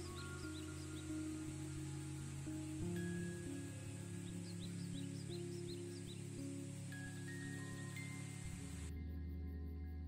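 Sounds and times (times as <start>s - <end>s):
slow held music notes: 0.0s - 10.0s.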